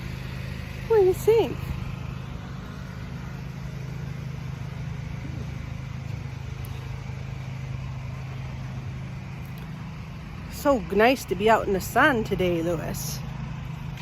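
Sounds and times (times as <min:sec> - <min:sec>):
pressure washer running: 0:00.0 - 0:14.0.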